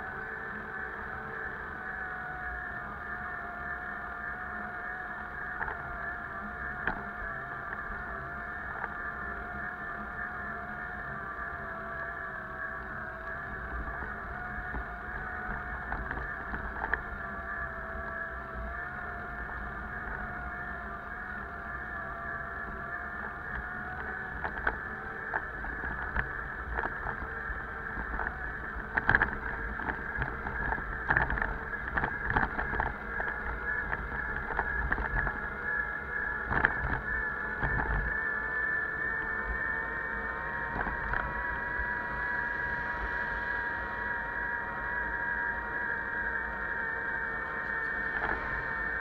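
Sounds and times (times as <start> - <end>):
bicycle whine: 0.0 - 49.0
wind rumble on microphone: 0.0 - 49.0.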